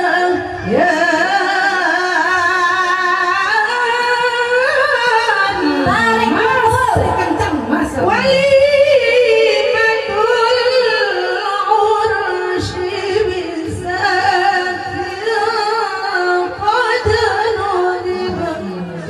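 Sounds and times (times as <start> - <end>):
women singing devotional song: 0.0 - 19.0.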